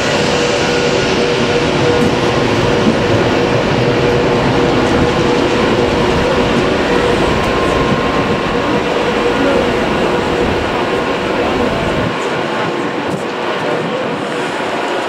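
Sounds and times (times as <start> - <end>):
faint steady tones: 0.0 - 15.0
train rumbling: 0.0 - 15.0.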